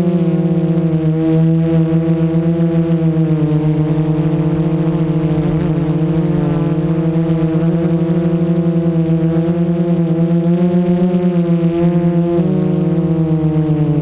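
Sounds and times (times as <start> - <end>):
quadcopter propellers buzzing: 0.0 - 14.0.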